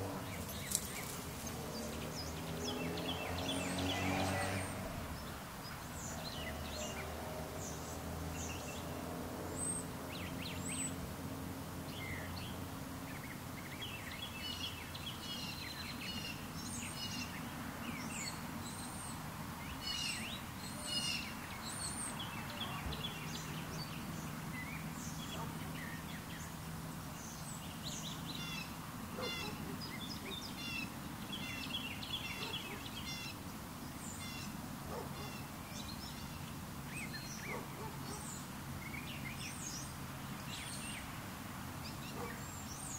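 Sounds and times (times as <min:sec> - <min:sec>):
background hiss: 0:00.0 - 0:42.9
small birds chirping: 0:00.0 - 0:42.9.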